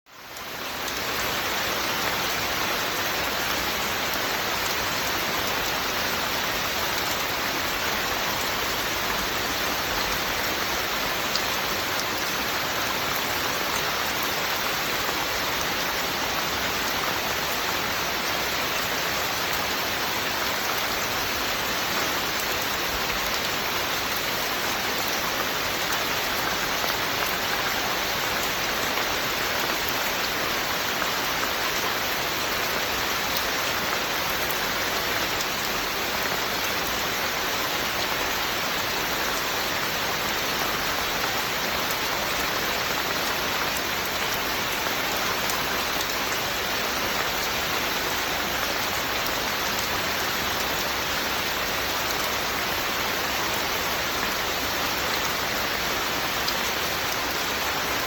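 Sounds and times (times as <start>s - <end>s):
steady rainfall: 0.1s - 58.0s.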